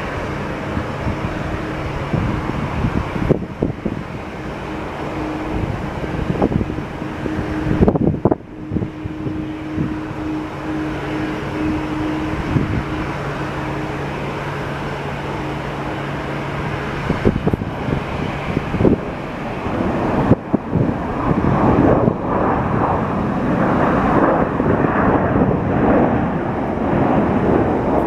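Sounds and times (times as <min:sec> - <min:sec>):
distant jet airliners rumbling: 0:00.0 - 0:28.0
low hum: 0:00.0 - 0:28.0
wind buffeting microphone: 0:00.0 - 0:28.0.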